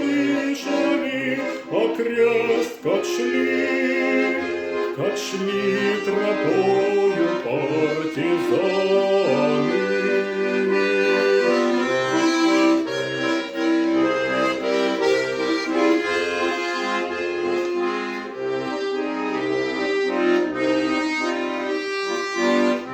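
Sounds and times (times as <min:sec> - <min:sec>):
accordion playing chords and bass: 0:00.0 - 0:22.9.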